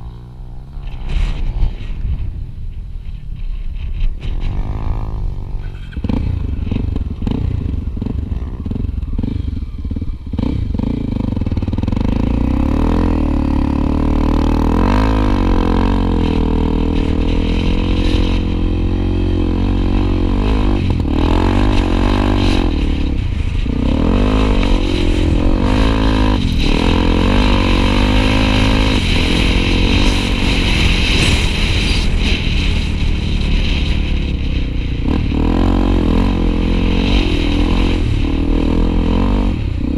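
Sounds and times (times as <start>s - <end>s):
motorcycle engine revving: 0.0s - 2.4s, 3.0s - 39.9s.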